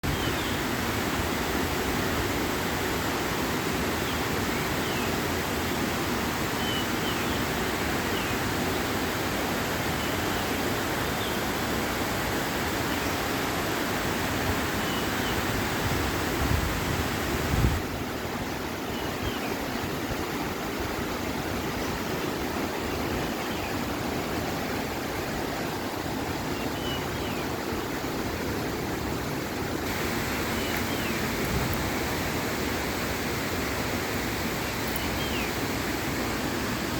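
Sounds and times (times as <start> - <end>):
rushing water: 0.0 - 36.9.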